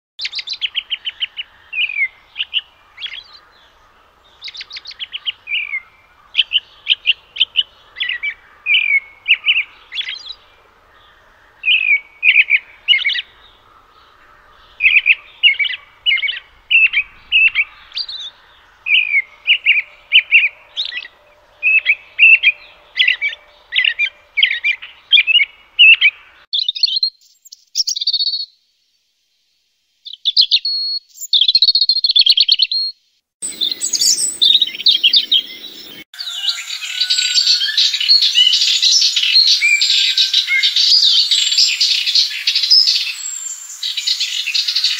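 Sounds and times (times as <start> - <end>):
robin singing: 0.2 - 28.6, 30.0 - 44.9.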